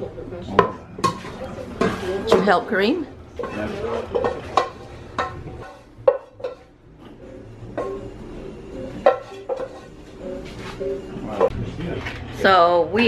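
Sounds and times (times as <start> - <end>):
dishes and utensils clattering: 0.5 - 12.4.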